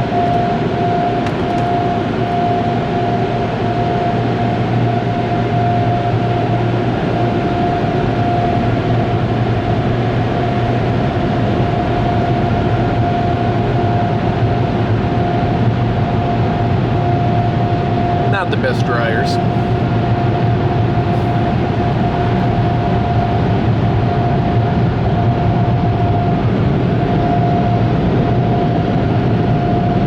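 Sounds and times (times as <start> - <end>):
car wash machinery running: 0.0 - 27.2.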